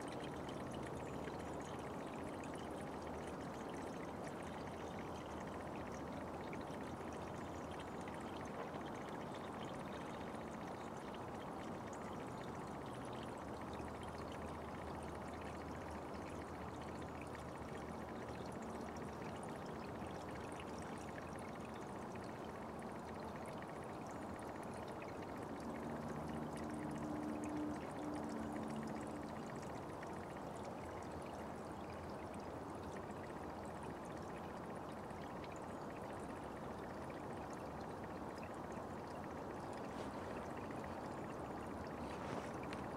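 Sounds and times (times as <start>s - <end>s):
brook water flowing: 0.0s - 42.9s
faint low hum: 0.0s - 42.9s.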